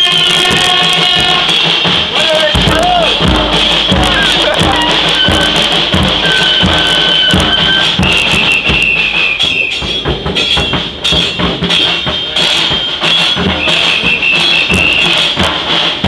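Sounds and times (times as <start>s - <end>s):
bass drum beat: 0.0s - 16.0s
high held tones: 0.0s - 16.0s.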